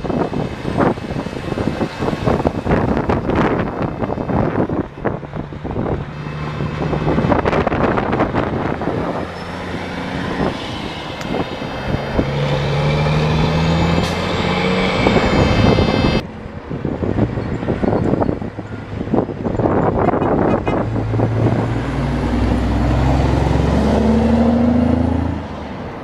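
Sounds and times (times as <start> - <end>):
diesel truck engine accelerating: 0.0 - 26.0
wind buffeting microphone: 0.0 - 26.0.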